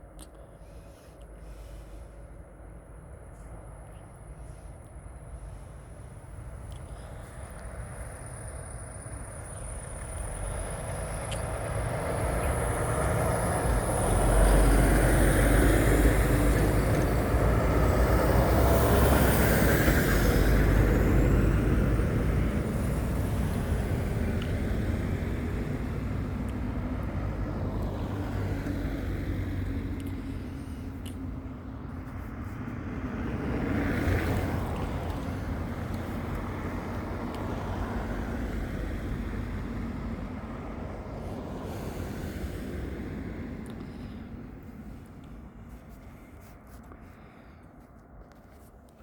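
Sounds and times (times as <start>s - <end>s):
heavy vehicle passing by: 7.1s - 46.6s.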